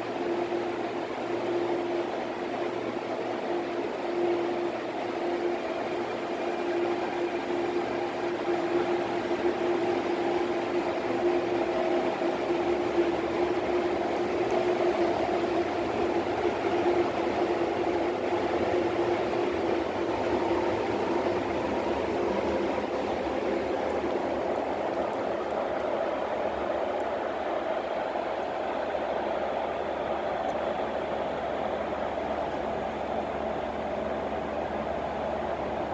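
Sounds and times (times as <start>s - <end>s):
train humming at platform: 0.0s - 35.9s.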